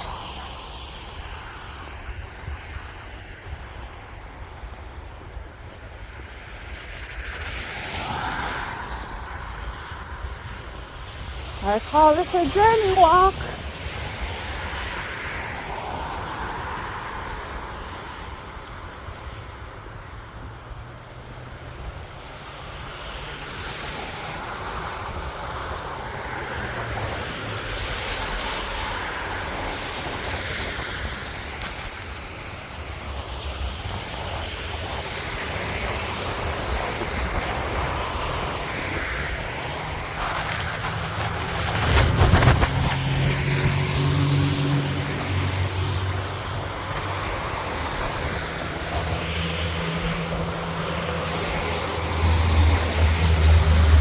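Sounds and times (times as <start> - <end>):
road traffic passing: 0.0 - 54.0
wind rumbling on microphone: 0.0 - 54.0.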